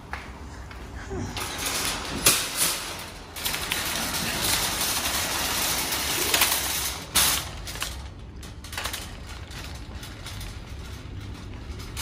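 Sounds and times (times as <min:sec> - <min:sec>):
shopping cart rattling and creaking: 0:01.1 - 0:12.0
shopping cart loud clatter: 0:01.4 - 0:12.0.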